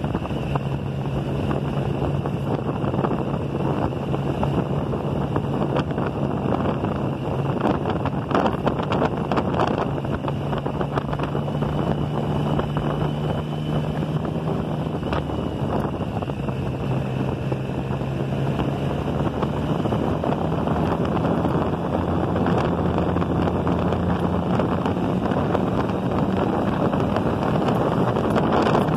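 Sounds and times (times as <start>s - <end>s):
motorcycle engine cruising: 0.0s - 28.9s
wind noise on microphone: 0.0s - 28.9s.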